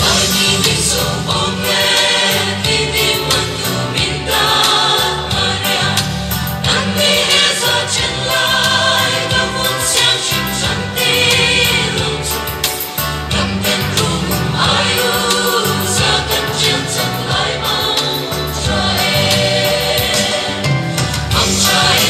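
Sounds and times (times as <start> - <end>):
group singing with instruments: 0.0 - 22.0.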